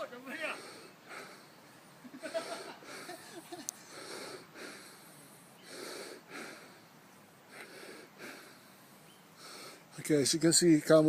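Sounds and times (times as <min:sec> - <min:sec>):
person breathing: 0:00.4 - 0:09.9.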